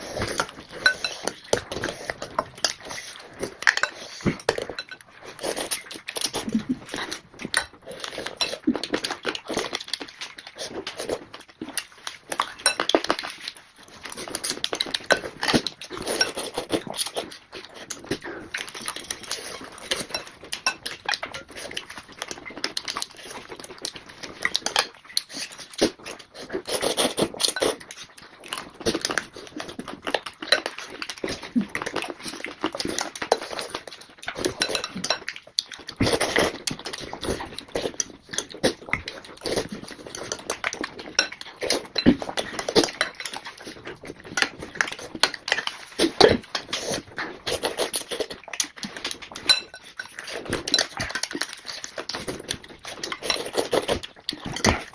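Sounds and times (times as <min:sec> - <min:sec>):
wet chewing and crunching: 0:00.0 - 0:54.9.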